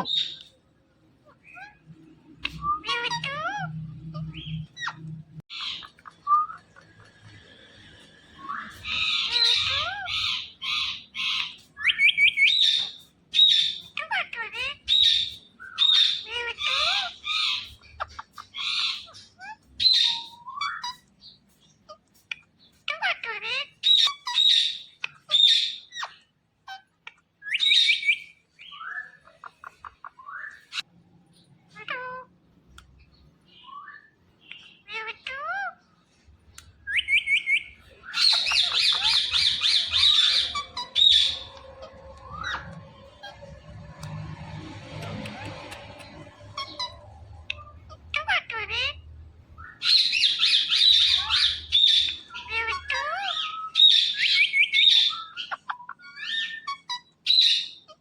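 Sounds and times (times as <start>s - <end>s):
parrot squawking: 0.0s - 0.6s, 1.2s - 30.9s, 31.6s - 32.4s, 33.5s - 58.0s
parakeet screeching and chirping: 0.0s - 58.0s.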